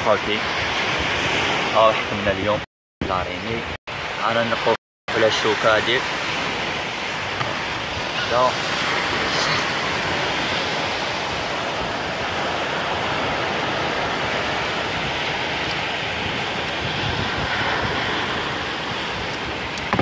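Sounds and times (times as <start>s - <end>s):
surf: 0.0s - 20.0s
wind: 0.0s - 20.0s.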